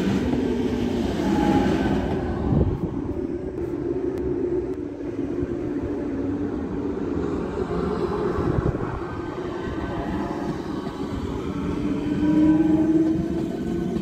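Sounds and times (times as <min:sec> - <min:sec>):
electric train pulling away: 0:00.0 - 0:14.0
train rumbling past: 0:00.0 - 0:14.0.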